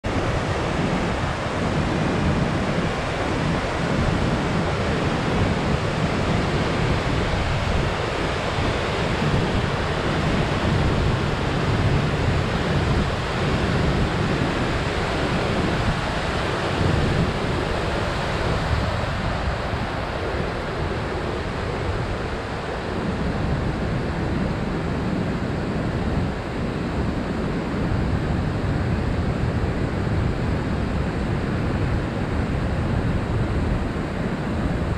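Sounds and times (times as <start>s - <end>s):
wind rumbling on microphone: 0.0s - 34.9s.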